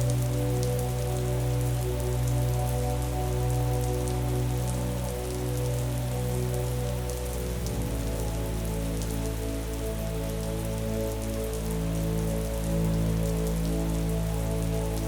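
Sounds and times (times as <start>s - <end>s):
soft music of deep held notes: 0.0s - 15.0s
steady rainfall: 0.0s - 15.0s.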